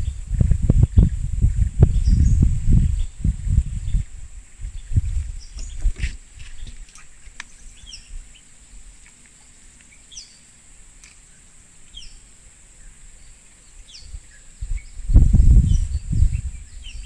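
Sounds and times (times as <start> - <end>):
insects droning: 0.0 - 17.0
bird chirping: 0.8 - 8.5, 9.4 - 17.0.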